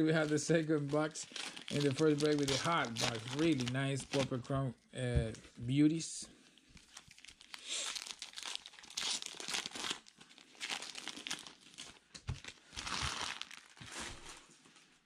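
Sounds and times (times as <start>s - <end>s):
wrapper tearing and crinkling: 0.0s - 4.4s, 6.7s - 14.4s.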